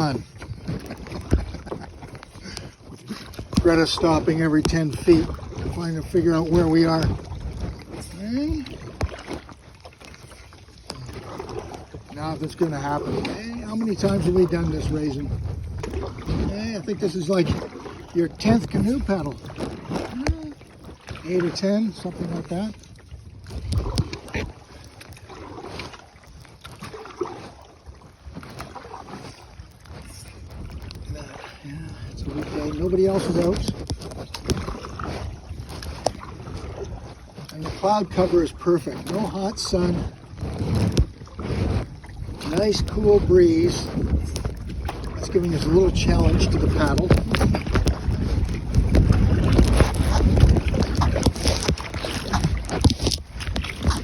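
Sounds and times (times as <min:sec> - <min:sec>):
paddle strokes in water: 0:00.0 - 0:54.0
wind rumbling on microphone: 0:00.0 - 0:54.0.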